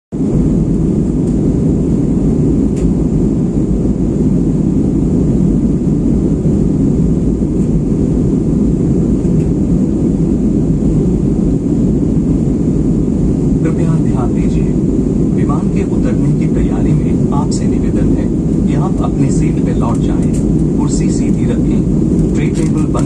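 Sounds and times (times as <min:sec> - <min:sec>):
airliner cabin engine rush: 0:00.1 - 0:23.0.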